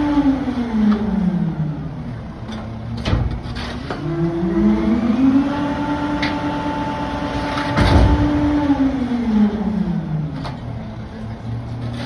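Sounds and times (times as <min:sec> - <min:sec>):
garbage truck engine revving: 0:00.0 - 0:10.6.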